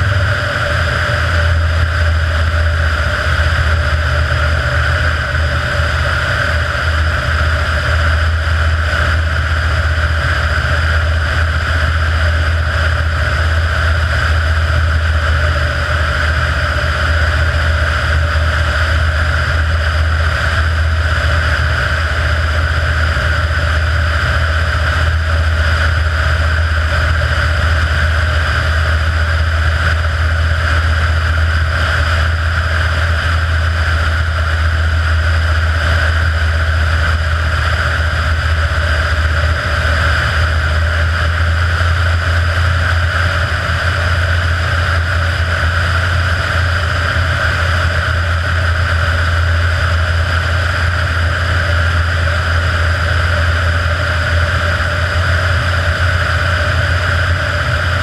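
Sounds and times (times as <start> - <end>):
plane engine droning: 0.0 - 58.0.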